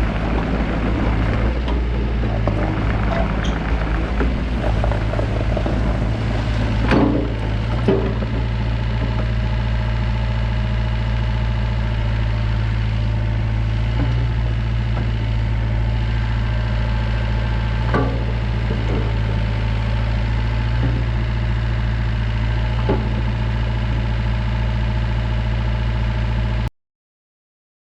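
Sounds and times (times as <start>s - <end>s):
diesel engine idling: 0.0s - 26.7s.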